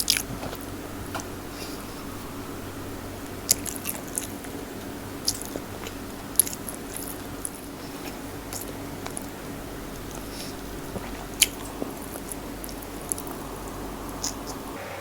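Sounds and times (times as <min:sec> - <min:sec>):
mouth sounds of chewing: 0:00.0 - 0:14.8.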